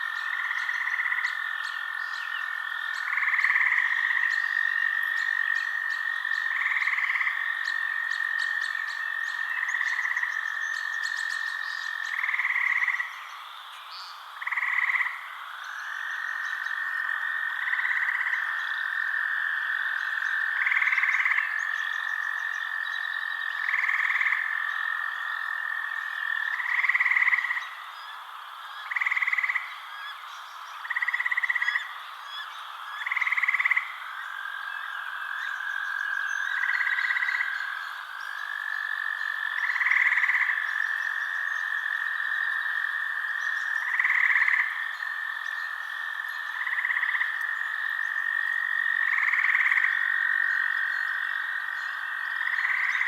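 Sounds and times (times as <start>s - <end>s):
short frog calls: 0.0s - 53.0s.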